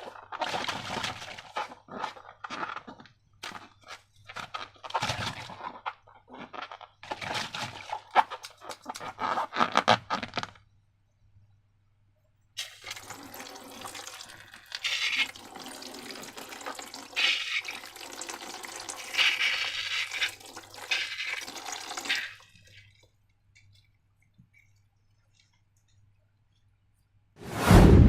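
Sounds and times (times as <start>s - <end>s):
slime pouring and squelching: 0.0s - 9.8s, 12.6s - 25.6s.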